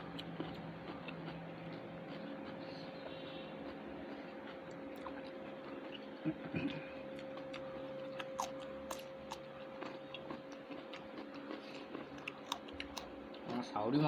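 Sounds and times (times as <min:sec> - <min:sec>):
chewing clicks and smacks: 0:00.0 - 0:13.7
steady low hum: 0:00.0 - 0:14.0.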